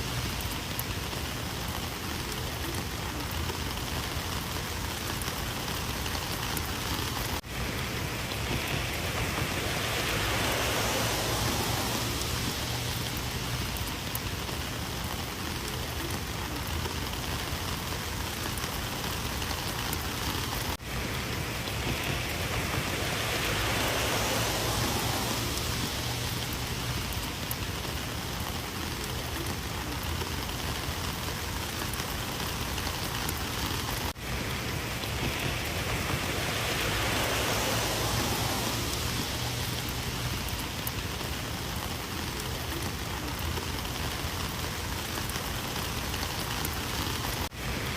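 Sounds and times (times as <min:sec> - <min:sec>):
rain falling steadily: 0:00.0 - 0:47.9.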